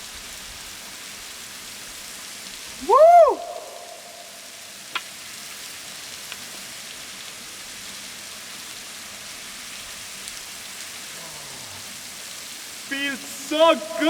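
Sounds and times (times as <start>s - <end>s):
waterfall pouring into pool: 0.0s - 14.0s.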